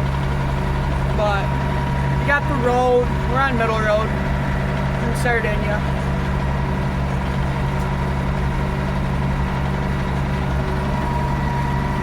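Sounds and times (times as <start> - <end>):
tractor diesel engine humming: 0.0 - 12.0.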